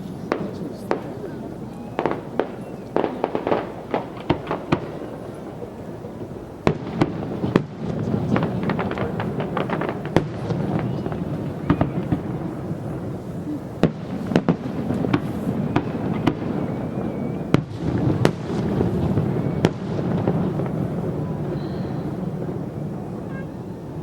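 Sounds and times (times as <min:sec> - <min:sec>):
distant firework bursts rumbling: 0:00.0 - 0:24.0
loud firework bangs: 0:00.0 - 0:24.0.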